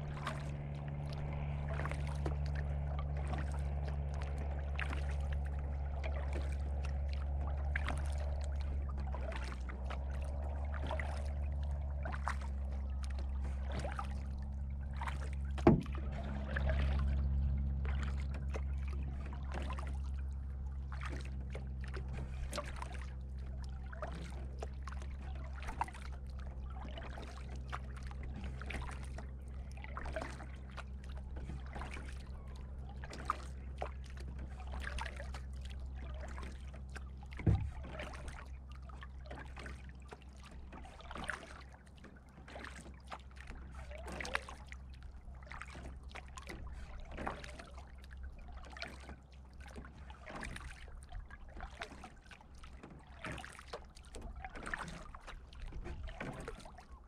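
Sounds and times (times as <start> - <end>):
low steady hum: 0.0 - 57.0
paddle splashing water: 0.0 - 57.0.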